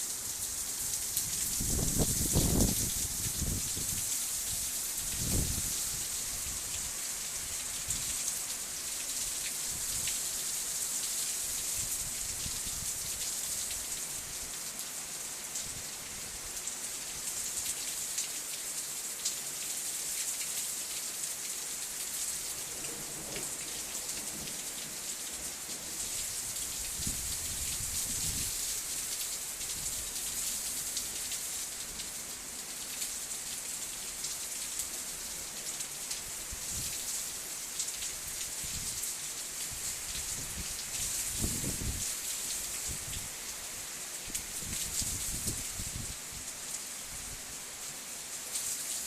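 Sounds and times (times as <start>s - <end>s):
heavy rain and sleet falling: 0.0s - 49.0s.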